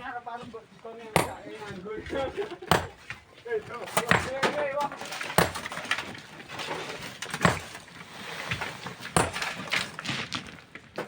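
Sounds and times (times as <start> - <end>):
hand tools striking rock: 1.1 - 11.0.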